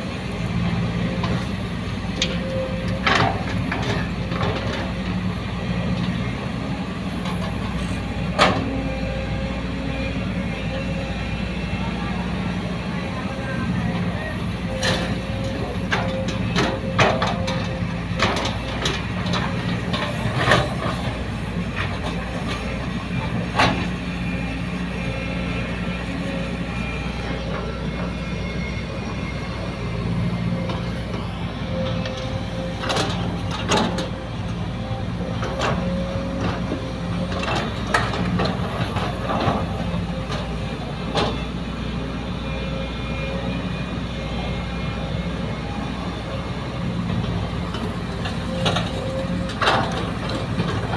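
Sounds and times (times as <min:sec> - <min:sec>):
excavator diesel engine: 0:00.0 - 0:50.9.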